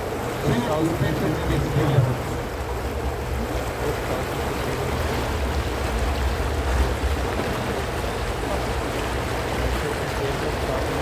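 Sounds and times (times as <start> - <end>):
boat motor humming: 0.0 - 11.0
water washing: 0.0 - 11.0.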